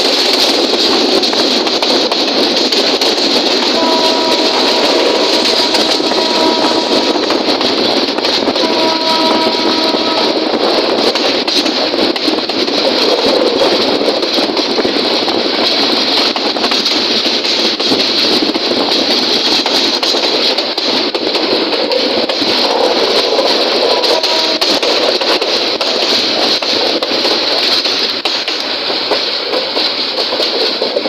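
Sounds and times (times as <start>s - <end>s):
train running with rattles: 0.0s - 31.0s.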